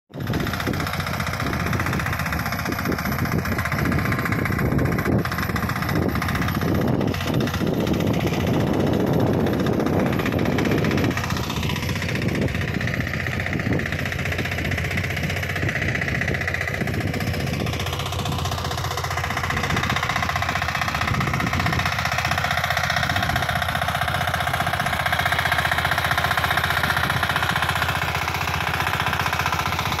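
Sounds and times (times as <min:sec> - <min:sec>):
tiller engine running: 0:00.1 - 0:30.0.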